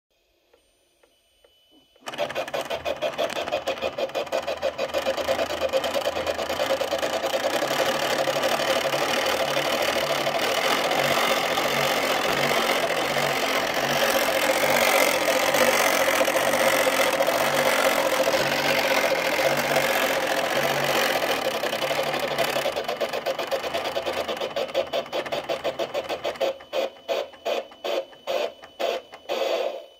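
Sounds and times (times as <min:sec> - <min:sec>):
steam engine chuffing from speaker: 0:02.0 - 0:29.9.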